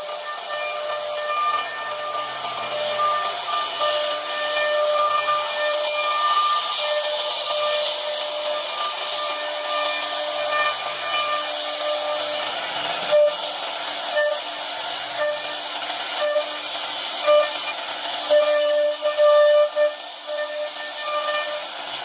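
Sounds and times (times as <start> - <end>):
bit cutting hiss: 0.0 - 22.0
router spindle whine: 0.0 - 22.0.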